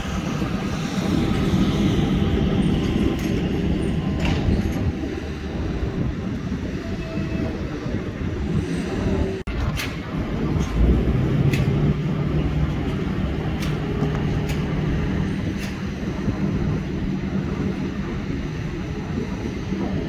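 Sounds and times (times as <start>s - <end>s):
heavy diesel machinery droning: 0.0s - 20.0s.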